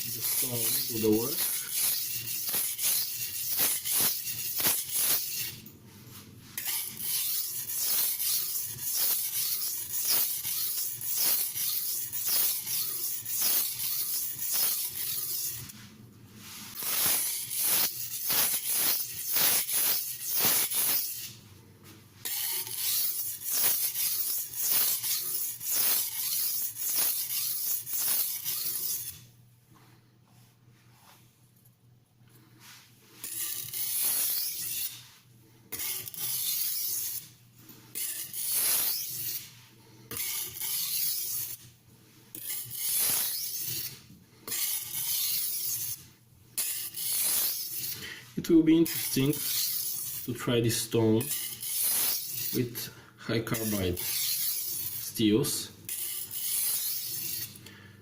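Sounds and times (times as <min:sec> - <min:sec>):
knife stroked on sharpening stone: 0:00.0 - 0:05.7, 0:06.6 - 0:15.8, 0:16.4 - 0:21.4, 0:22.2 - 0:29.3, 0:32.6 - 0:41.6, 0:42.3 - 0:57.6.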